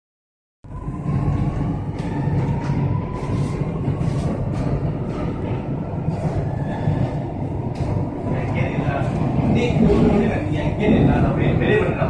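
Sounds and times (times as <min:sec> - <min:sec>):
train rumble: 0:00.6 - 0:12.0.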